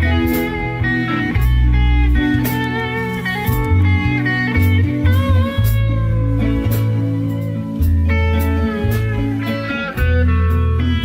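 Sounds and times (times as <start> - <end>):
rock band playing: 0.0 - 11.0
sustained electric guitar notes: 0.0 - 11.0.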